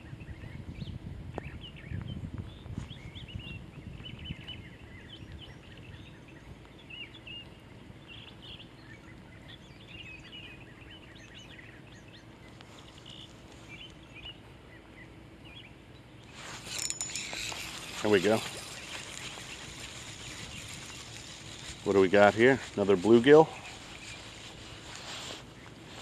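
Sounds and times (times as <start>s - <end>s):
low steady rumble: 0.0s - 26.0s
songbirds chirping: 0.0s - 26.0s.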